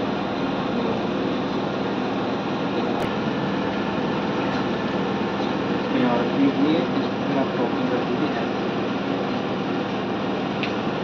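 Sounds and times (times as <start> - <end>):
mechanical noise with low hum: 0.0 - 11.0.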